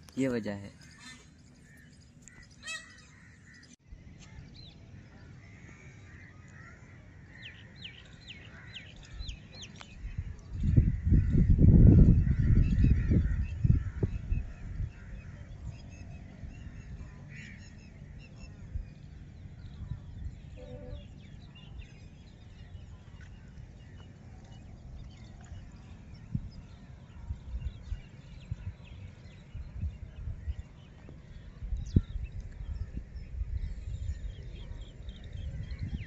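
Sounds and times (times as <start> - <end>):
bird calls and chirps: 0.0 - 36.0.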